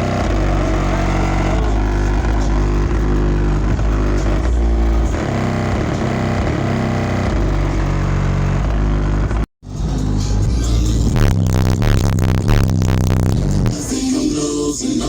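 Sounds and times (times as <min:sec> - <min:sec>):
bass-heavy music through subwoofer: 0:00.0 - 0:15.0.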